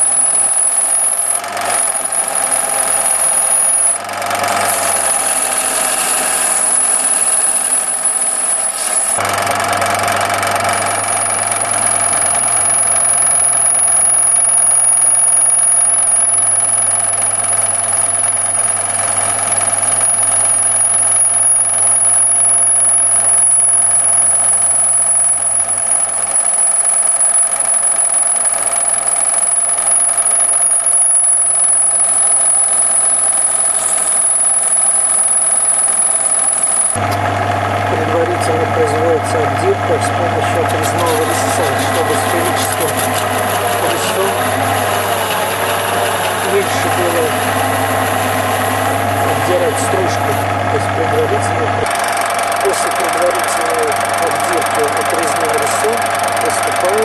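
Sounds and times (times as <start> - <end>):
high-pitched cutting whine: 0.0 - 57.0
lathe motor hum: 0.0 - 57.0.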